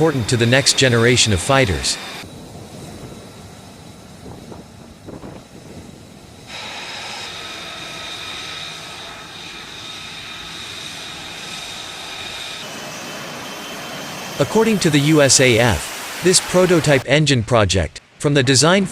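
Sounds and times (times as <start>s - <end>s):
high turbine whine: 0.0s - 17.0s
jet engine rush: 0.0s - 17.1s.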